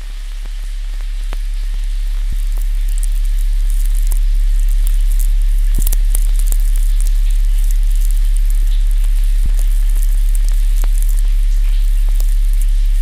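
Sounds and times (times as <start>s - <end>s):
crackling sizzling hiss: 0.0s - 13.0s
deep low hum: 0.0s - 13.0s.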